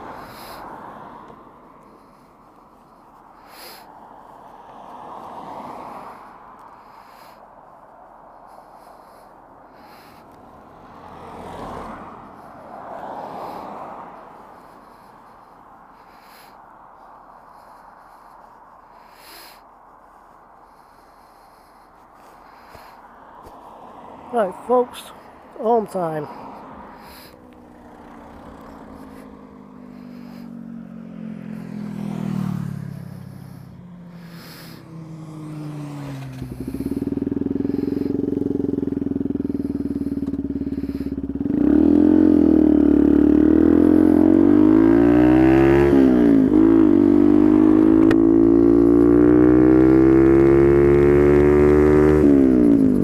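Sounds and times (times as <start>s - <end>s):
motorcycle engine accelerating: 0.0s - 7.4s, 9.8s - 18.6s, 26.2s - 53.0s
passing car engine: 0.0s - 53.0s.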